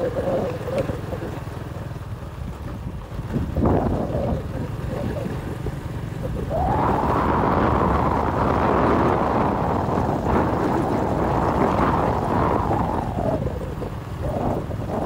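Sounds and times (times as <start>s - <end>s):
vehicle road rumble on gravel: 0.0s - 15.0s
wind on microphone: 0.0s - 15.0s.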